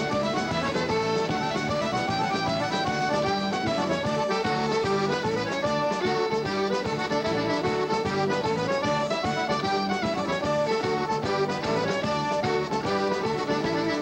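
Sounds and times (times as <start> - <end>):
bass guitar: 0.0 - 14.0
button accordion: 0.0 - 14.0
drums: 0.0 - 14.0
fiddle: 0.0 - 14.0.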